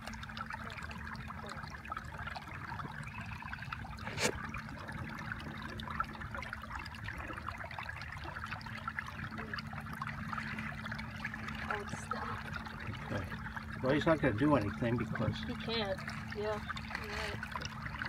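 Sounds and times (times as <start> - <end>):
low hum: 0.0 - 18.0
water trickling and lapping: 0.0 - 18.0.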